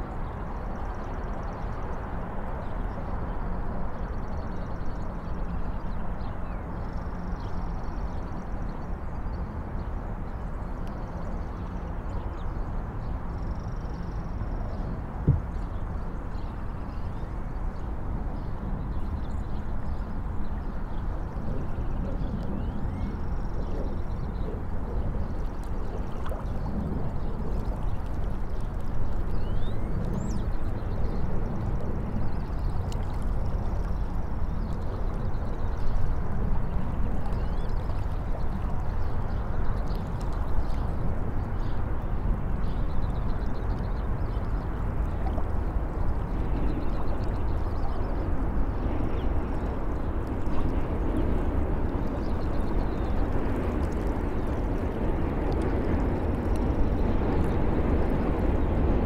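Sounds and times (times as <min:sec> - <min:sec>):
low rumble of city traffic: 0:00.0 - 0:59.0.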